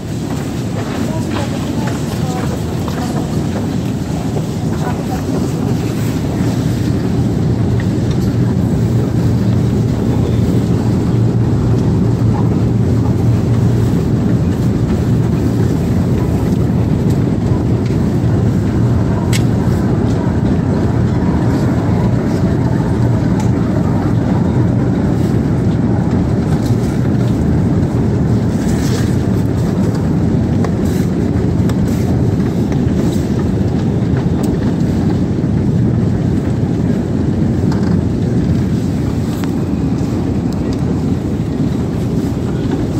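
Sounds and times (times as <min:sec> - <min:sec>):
escalator machinery hum: 0:00.0 - 0:42.9.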